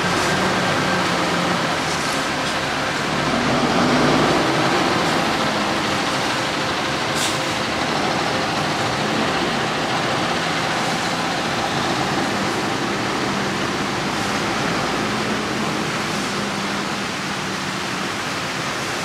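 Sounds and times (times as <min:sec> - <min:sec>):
heavy vehicle running close by: 0:00.0 - 0:19.0
street traffic: 0:00.0 - 0:19.0.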